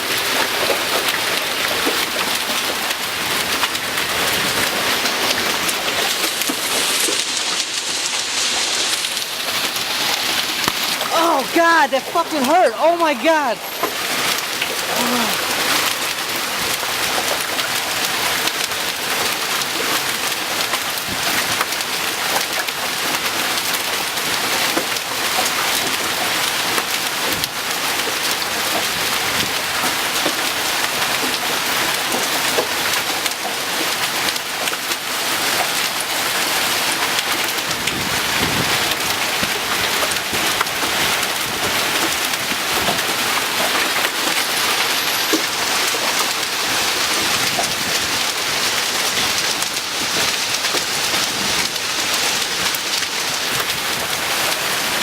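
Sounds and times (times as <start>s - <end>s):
hail and heavy rain falling: 0.0s - 55.0s.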